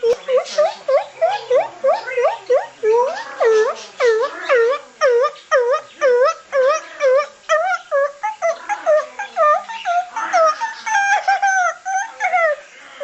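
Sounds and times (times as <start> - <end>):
parrot calling: 0.0 - 13.0.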